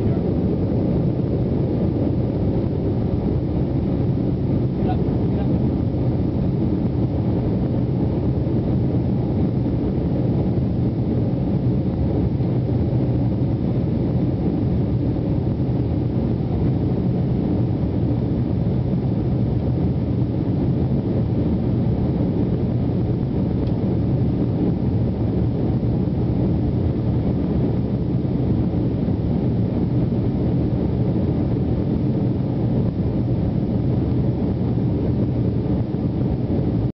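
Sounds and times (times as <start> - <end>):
jet airliner cabin drone: 0.0 - 36.9.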